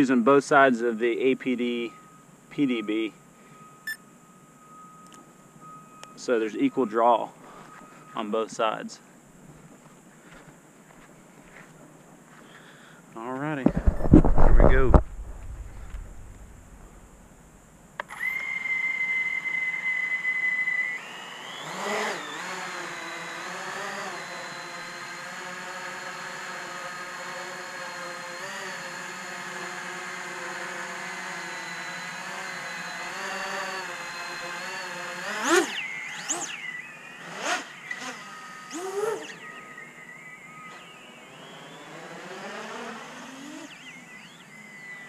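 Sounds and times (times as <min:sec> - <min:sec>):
quadcopter motors whining: 0:00.0 - 0:08.9, 0:13.6 - 0:45.0.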